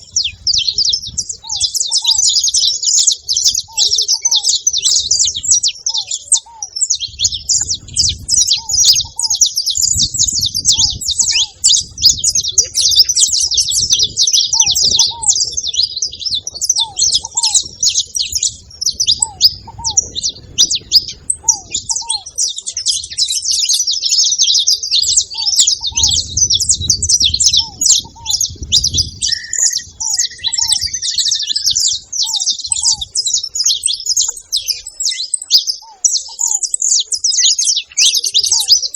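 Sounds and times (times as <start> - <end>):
finch chirping rapidly: 0.0 - 38.9
lower bird trill: 0.0 - 38.9.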